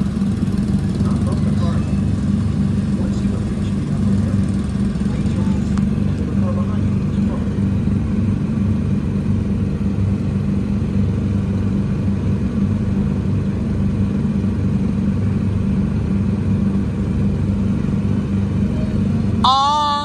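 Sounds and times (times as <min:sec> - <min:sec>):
low motor hum: 0:00.0 - 0:20.0
road rumble: 0:00.0 - 0:20.0.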